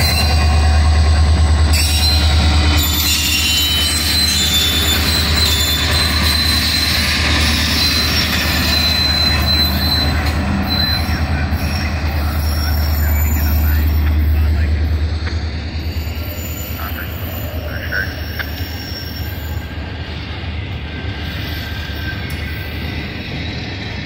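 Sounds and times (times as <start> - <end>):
steel wheel squeals: 0.0 - 14.6, 15.6 - 20.0, 21.1 - 23.9
diesel locomotives passing: 0.0 - 24.0.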